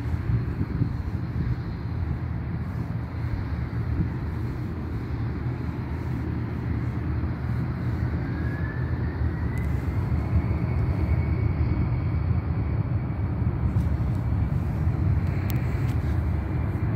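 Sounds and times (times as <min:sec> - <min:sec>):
distant jet engine rumble: 0:00.0 - 0:16.9
jet engine whine rising: 0:00.0 - 0:16.9.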